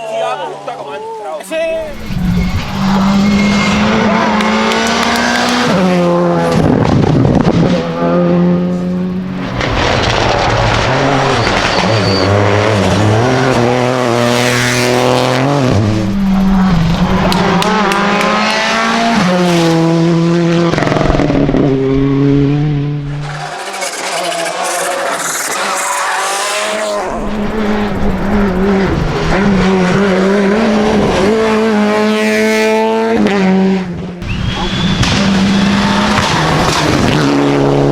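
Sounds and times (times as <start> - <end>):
rally car engine revving: 1.6 - 37.9.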